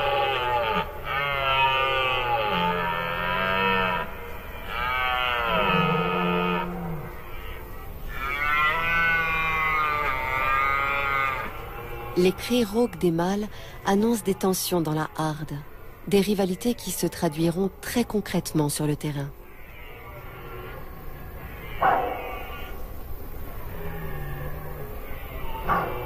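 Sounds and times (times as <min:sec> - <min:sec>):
deer stags roaring: 0:00.0 - 0:17.6, 0:19.5 - 0:26.0.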